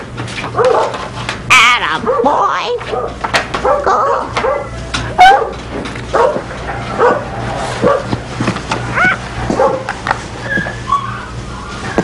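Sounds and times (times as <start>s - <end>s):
dogs barking: 0.4s - 1.2s, 1.8s - 12.0s.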